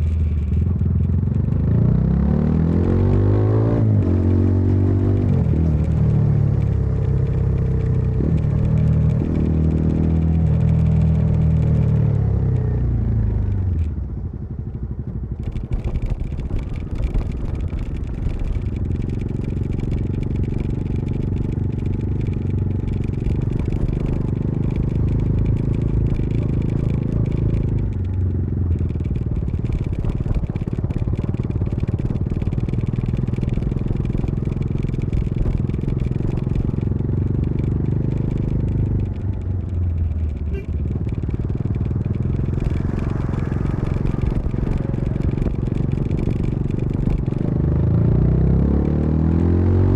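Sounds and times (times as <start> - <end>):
motorcycle engine and exhaust: 0.0 - 49.9
road noise: 0.0 - 49.9
wind: 0.0 - 49.9.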